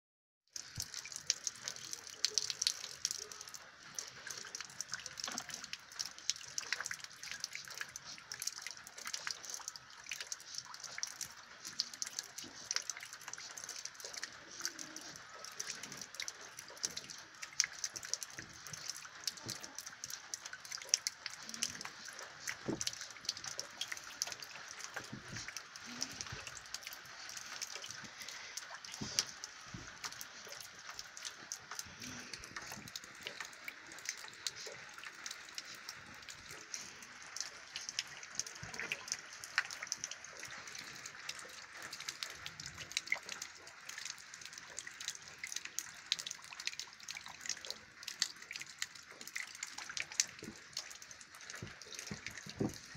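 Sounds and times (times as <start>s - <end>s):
rain-like hiss with patter: 0.6s - 52.9s.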